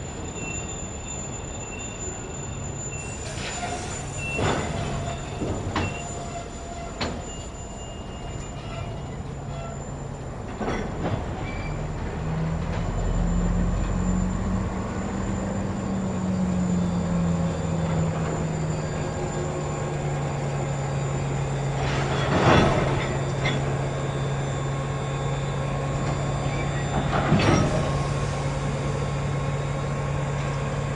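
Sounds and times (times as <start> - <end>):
diesel engine humming: 0.0 - 30.9
wheels clattering on rails: 0.0 - 30.9.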